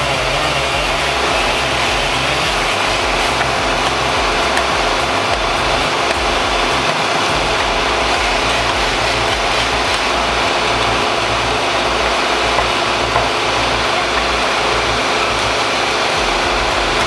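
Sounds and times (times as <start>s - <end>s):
large engine running: 0.0s - 17.0s.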